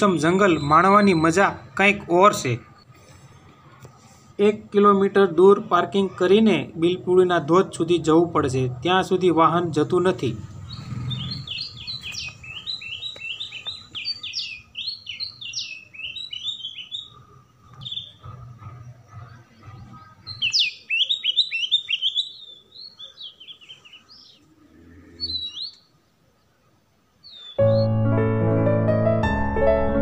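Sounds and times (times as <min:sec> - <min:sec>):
bird chirping: 0:00.0 - 0:03.7, 0:04.8 - 0:28.0.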